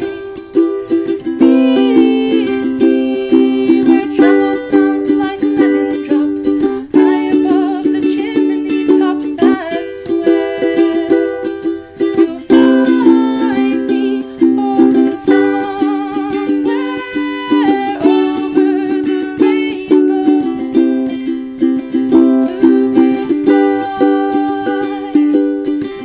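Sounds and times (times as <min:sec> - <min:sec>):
strummed beat: 0:00.0 - 0:26.0
wavering melody line: 0:00.0 - 0:26.0.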